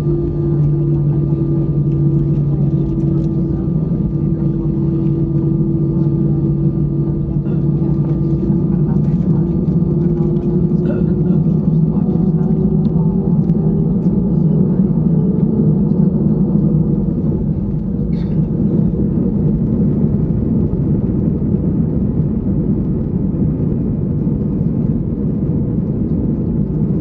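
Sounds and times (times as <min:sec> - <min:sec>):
airplane cabin rumble: 0:00.0 - 0:27.0
jet engines droning: 0:00.0 - 0:27.0.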